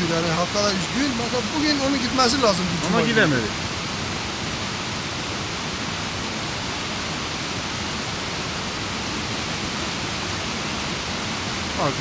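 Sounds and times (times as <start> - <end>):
muddy creek rushing: 0.0 - 12.0.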